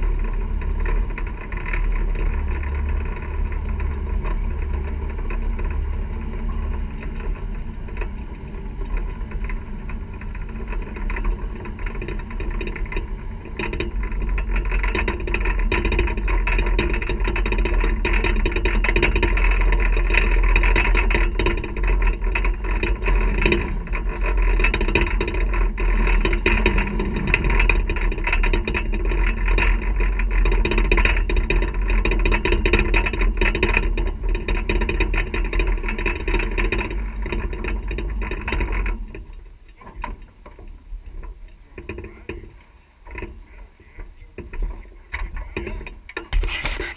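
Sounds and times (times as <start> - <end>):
boat motor humming: 0.0 - 46.9.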